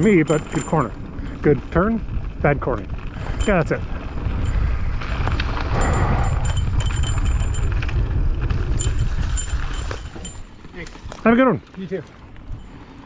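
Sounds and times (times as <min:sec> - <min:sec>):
bike rattling ticks: 0:00.0 - 0:13.0
bike tyres on dirt trail: 0:00.0 - 0:13.0
wind buffeting microphone: 0:00.0 - 0:13.0.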